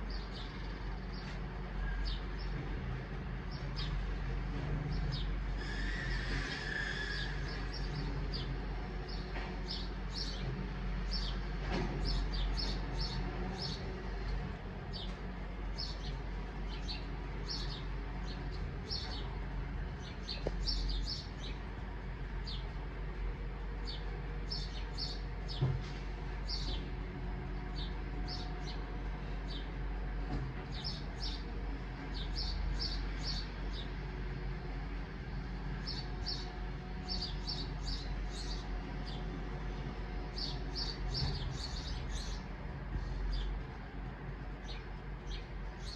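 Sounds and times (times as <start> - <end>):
small birds chirping: 0.0 - 2.8, 3.4 - 29.8, 30.7 - 34.5, 35.5 - 45.9.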